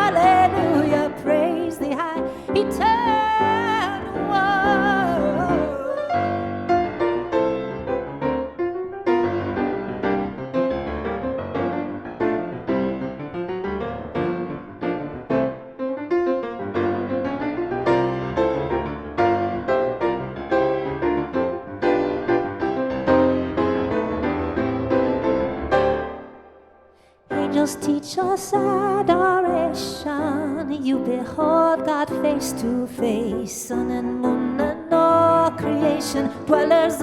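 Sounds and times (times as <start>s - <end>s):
piano chords: 0.0s - 37.0s.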